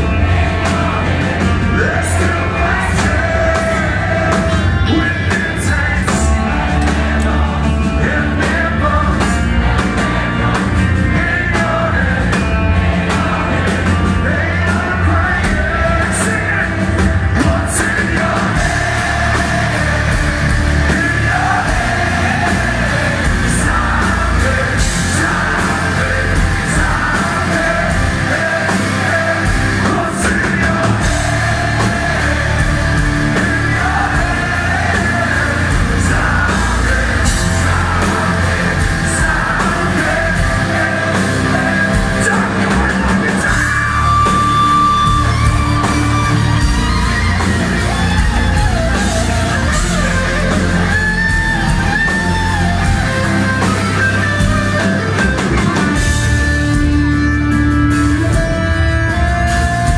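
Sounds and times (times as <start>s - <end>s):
person singing: 0.0s - 55.9s
live heavy rock band: 0.0s - 59.9s.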